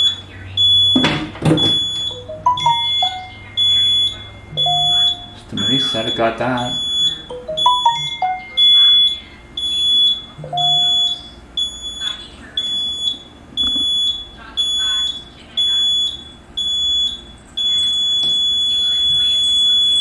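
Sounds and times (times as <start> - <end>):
fire alarm beeping: 0.0 - 20.0.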